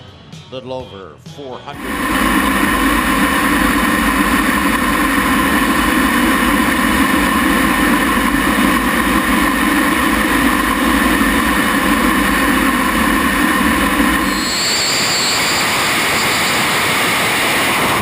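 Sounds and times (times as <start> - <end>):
jet engine running: 1.8 - 18.0.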